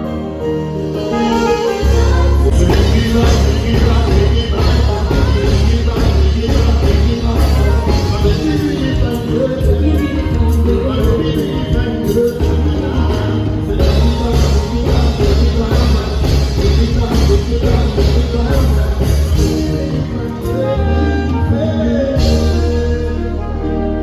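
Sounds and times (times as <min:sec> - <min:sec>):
heavy bass: 0:00.0 - 0:24.0
loud music over pa: 0:00.0 - 0:24.0
steady drum beat: 0:01.1 - 0:21.4, 0:22.1 - 0:23.4.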